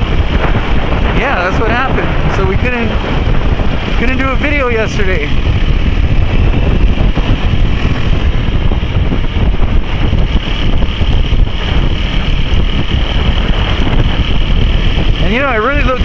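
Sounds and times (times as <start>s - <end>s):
motorcycle and road rumble: 0.0s - 16.0s
wind buffeting microphone: 0.0s - 16.0s.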